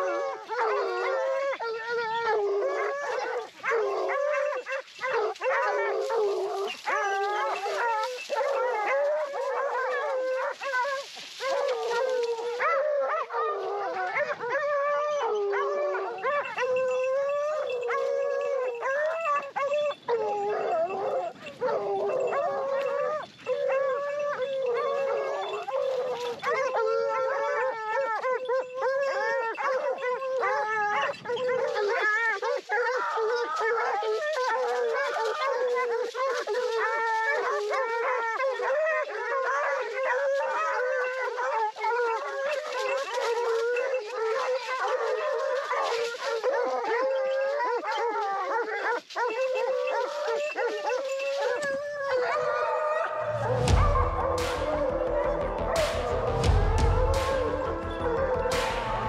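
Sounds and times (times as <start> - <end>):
pack of hounds baying: 0.0 - 59.0.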